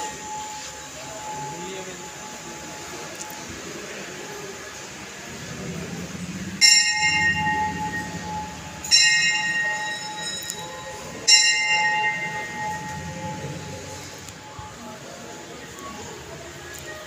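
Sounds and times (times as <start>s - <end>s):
temple bell ringing: 0.0s - 4.6s, 5.2s - 15.4s.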